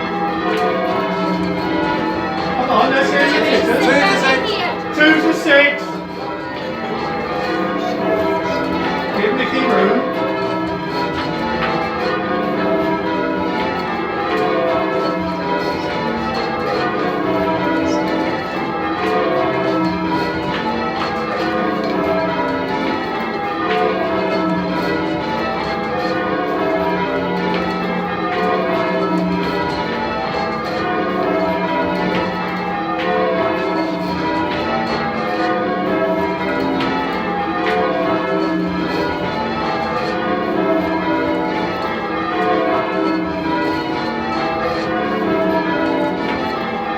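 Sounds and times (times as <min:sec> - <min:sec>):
church bells ringing in sequence: 0:00.0 - 0:46.9.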